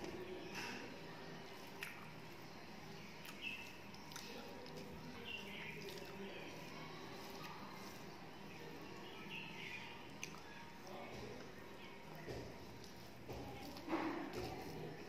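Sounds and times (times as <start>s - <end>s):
wet chewing: 1.5s - 2.4s, 3.0s - 15.0s.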